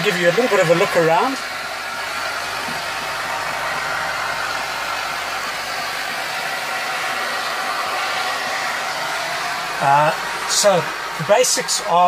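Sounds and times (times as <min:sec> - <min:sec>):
air hissing: 0:00.0 - 0:12.0.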